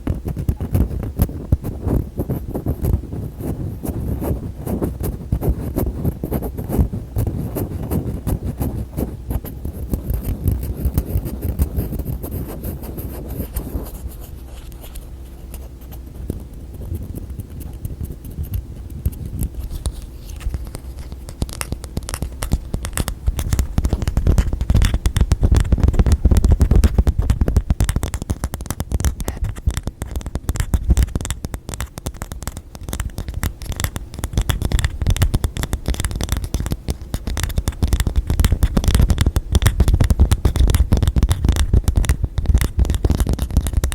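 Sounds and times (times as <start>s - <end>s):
fingertips tapping and scratching: 0.0s - 43.9s.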